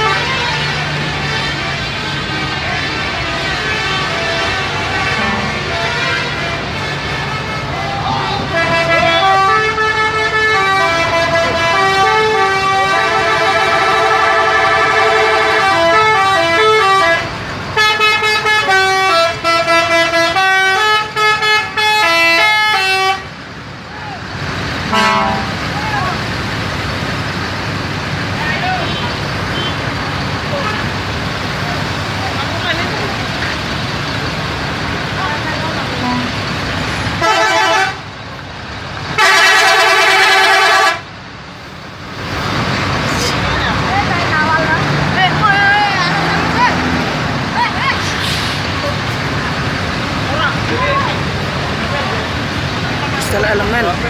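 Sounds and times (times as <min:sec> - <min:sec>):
multi-tone bus horns playing melodies: 0:00.0 - 0:23.4, 0:24.8 - 0:26.2, 0:28.6 - 0:41.2, 0:41.8 - 0:54.0
traffic noise: 0:00.0 - 0:54.0.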